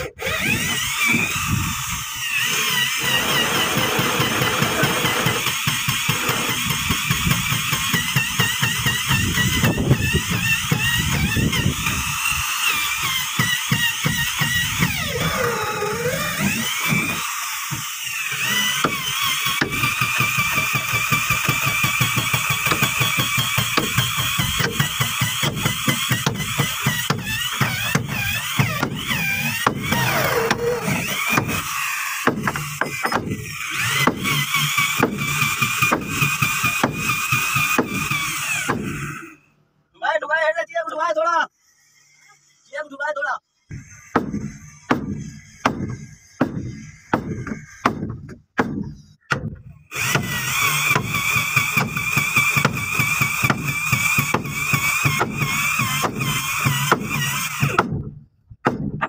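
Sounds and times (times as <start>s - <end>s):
cordless drill boring into wood: 0.0s - 39.5s, 41.5s - 42.8s, 43.6s - 48.1s, 49.9s - 57.9s.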